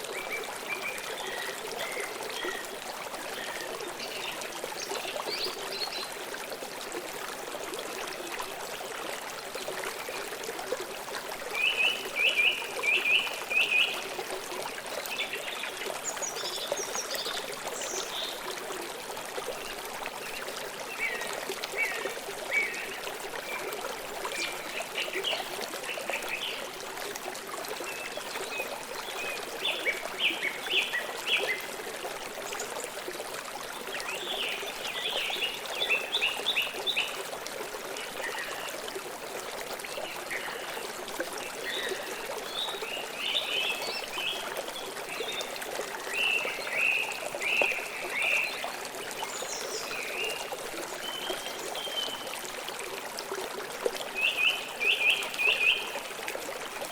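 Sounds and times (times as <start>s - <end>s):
river flowing over stones: 0.0s - 56.9s.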